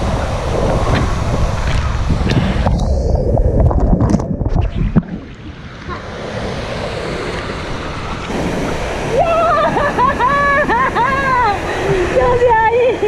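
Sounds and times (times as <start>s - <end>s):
wind noise on microphone: 0.0s - 10.9s
rushing water: 0.0s - 13.0s.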